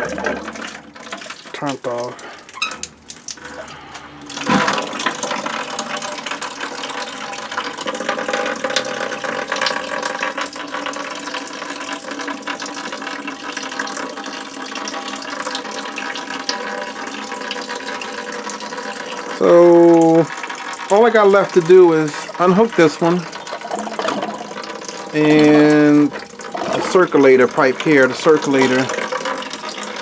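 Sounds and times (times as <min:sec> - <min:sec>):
water pouring into a bucket: 0:00.0 - 0:30.0.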